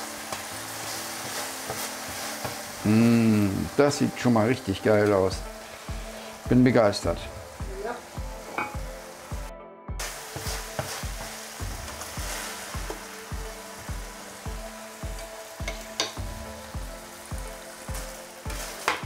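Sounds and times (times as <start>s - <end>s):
background music with steady beat: 0.0s - 19.0s
chicken sizzling on a griddle: 0.0s - 19.0s.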